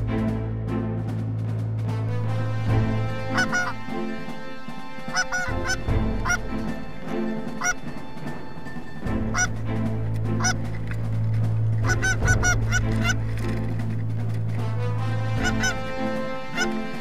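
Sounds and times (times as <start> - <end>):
faint background music: 0.0 - 17.0
geese honking: 1.9 - 17.0.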